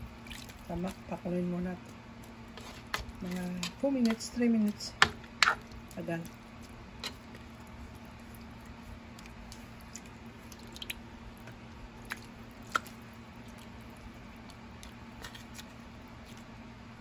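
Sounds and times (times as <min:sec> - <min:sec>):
soup sloshing: 0:00.0 - 0:16.6
steady low hum: 0:00.0 - 0:17.0.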